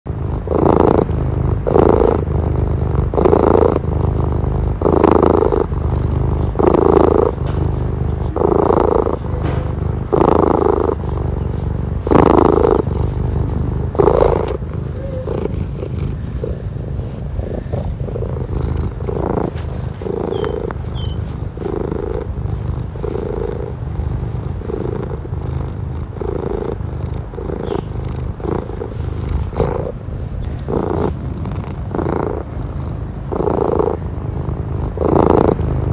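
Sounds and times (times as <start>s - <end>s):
cat purring: 0.1s - 35.9s.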